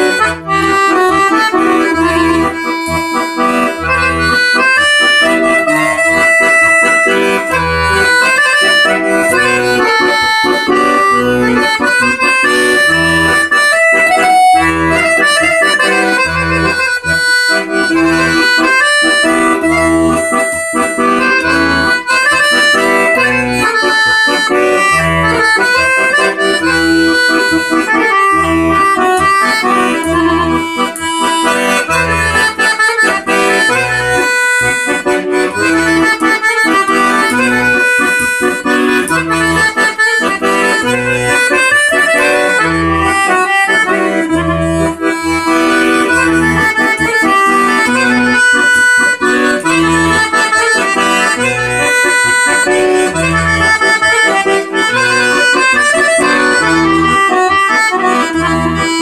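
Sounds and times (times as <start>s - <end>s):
piano accordion playing: 0.0s - 59.0s.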